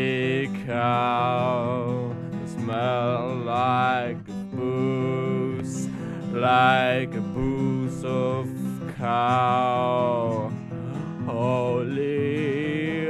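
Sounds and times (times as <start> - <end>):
person singing: 0.0 - 13.0
strummed acoustic guitar: 0.0 - 13.0.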